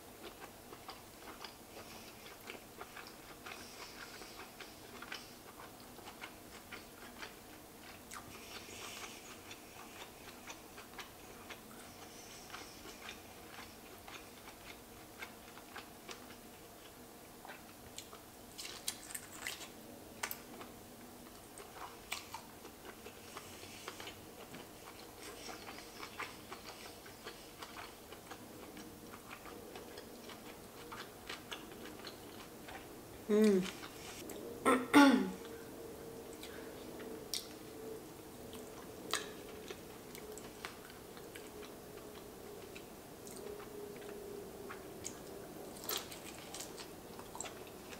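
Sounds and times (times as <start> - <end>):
chewing lobster meat: 0.1 - 34.5, 35.4 - 47.9.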